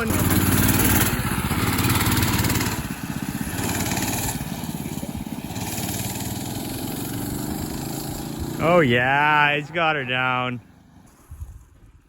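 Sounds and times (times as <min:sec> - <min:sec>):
minibike engine running: 0:00.0 - 0:12.0.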